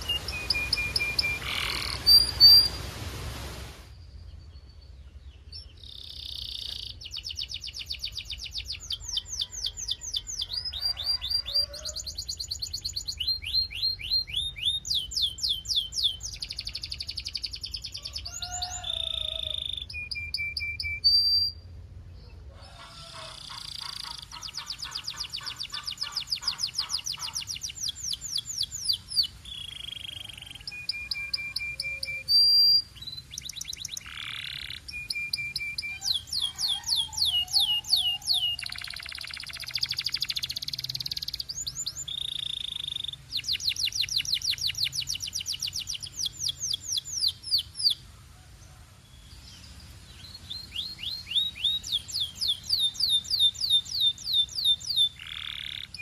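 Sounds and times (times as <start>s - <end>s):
canary singing: 0.0s - 2.9s, 5.5s - 21.7s, 22.7s - 48.1s, 49.6s - 56.0s.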